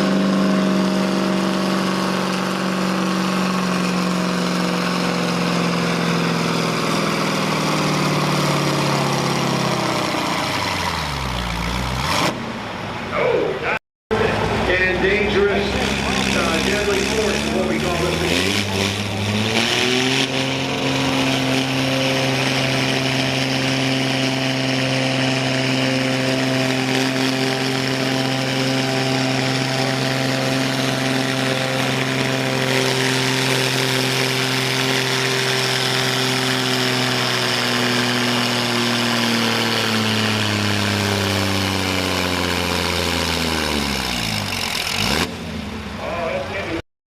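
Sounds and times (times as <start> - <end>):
vehicle engine at full throttle: 0.0 - 13.4, 14.1 - 46.8.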